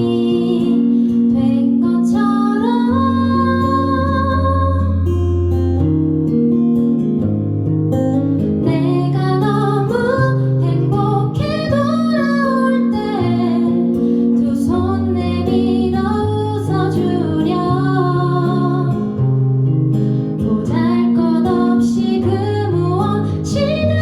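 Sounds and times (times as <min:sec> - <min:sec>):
woman singing: 0:00.0 - 0:05.2, 0:08.6 - 0:19.4, 0:20.3 - 0:24.0
acoustic guitar strumming: 0:00.0 - 0:24.0.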